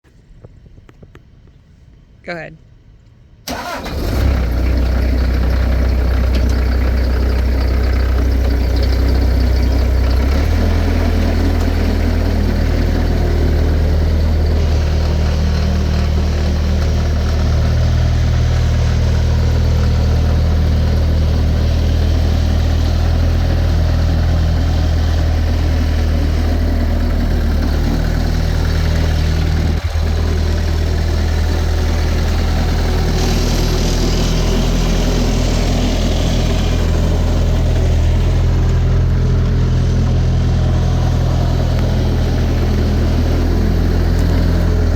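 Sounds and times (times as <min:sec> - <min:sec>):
diesel engine running: 0:03.5 - 0:44.9.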